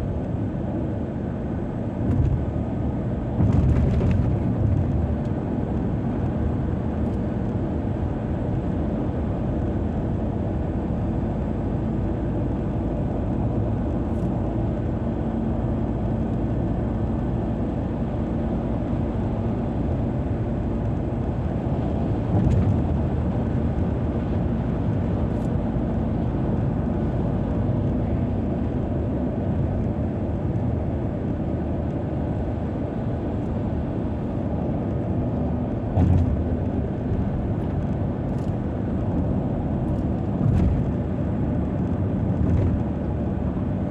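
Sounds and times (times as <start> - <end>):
car engine hum: 0.0 - 43.9.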